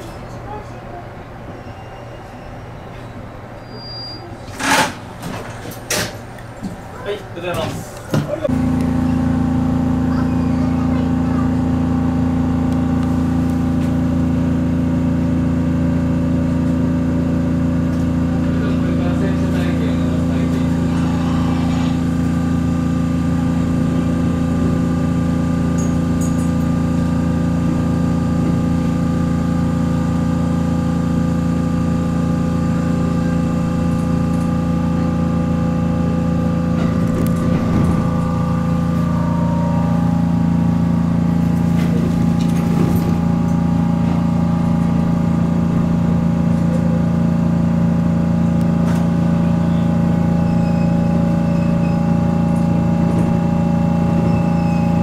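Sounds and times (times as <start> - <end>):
electric train humming: 4.3 - 55.0.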